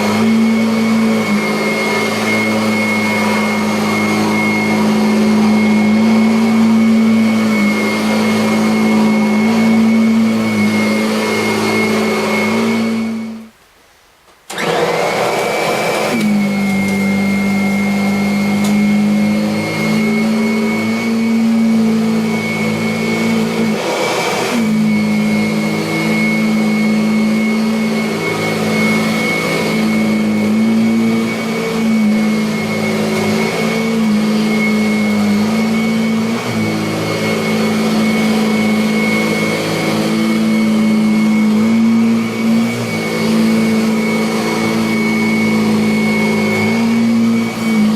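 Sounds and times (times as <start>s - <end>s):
vacuum cleaner running: 0.0s - 13.6s, 14.5s - 47.9s.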